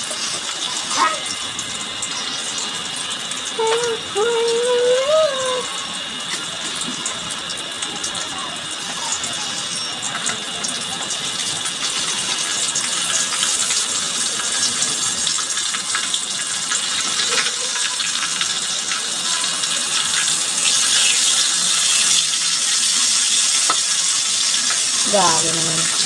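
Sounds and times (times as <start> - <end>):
oil sizzling in a frying pan: 0.0 - 26.0.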